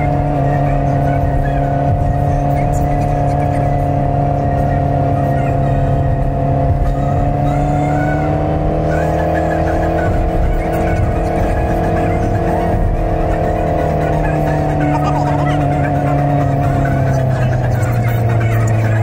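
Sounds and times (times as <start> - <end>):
car engine droning: 0.0 - 19.0
road rumble: 0.0 - 19.0.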